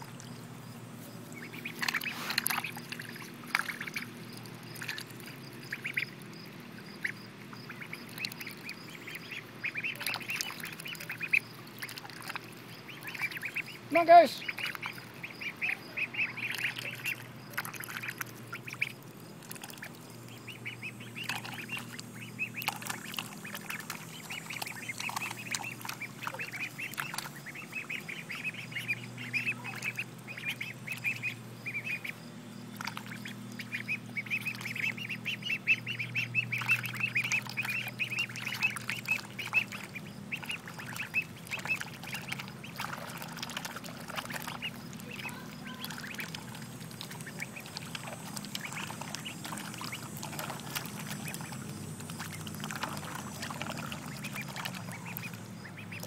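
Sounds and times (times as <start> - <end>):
ducks dabbling in water: 0.0 - 56.0.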